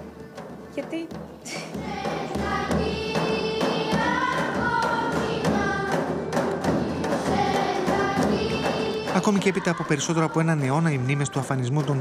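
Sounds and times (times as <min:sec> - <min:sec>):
large drum beat: 0:00.0 - 0:12.0
children singing folk song: 0:01.5 - 0:12.0.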